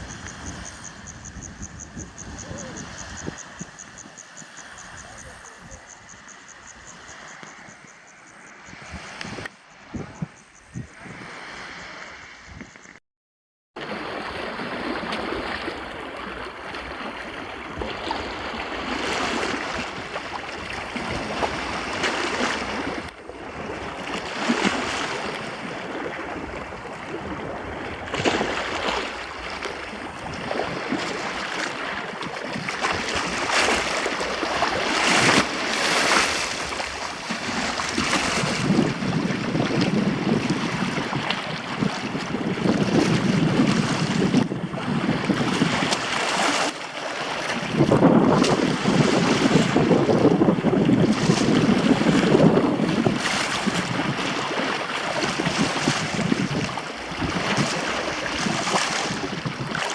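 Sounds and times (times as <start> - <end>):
sea waves breaking: 0.0 - 10.2, 10.8 - 12.5, 13.8 - 59.9
wind rumbling on microphone: 0.0 - 13.0, 16.6 - 59.9.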